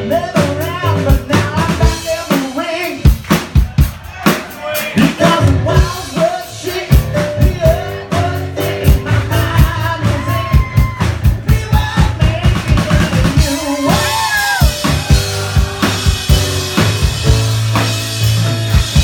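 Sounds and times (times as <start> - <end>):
man singing: 0.0 - 17.6
drum kit playing steady beat: 0.0 - 19.0
piano: 0.0 - 19.0.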